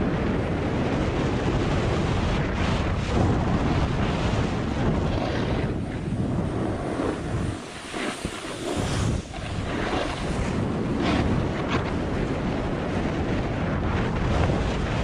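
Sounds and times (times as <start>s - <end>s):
snowmobile engine drone: 0.0s - 15.0s
wind buffeting microphone: 0.0s - 15.0s.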